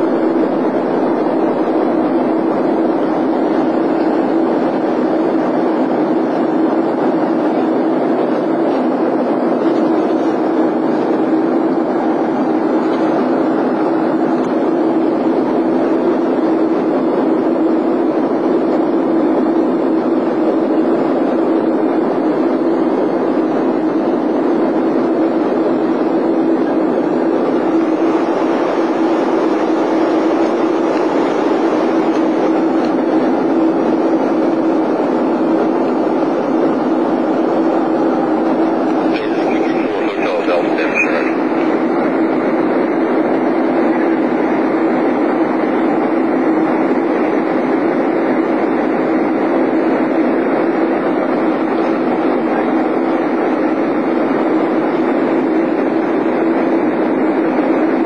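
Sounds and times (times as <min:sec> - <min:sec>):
jet cabin engine and airflow rush: 0:00.0 - 0:58.0
steady low hum: 0:00.0 - 0:58.0.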